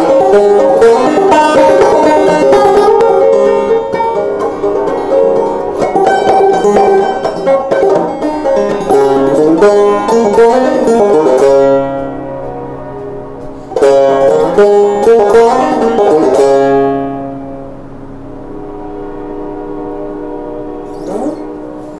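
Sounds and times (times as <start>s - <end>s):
banjo playing: 0.0s - 21.9s.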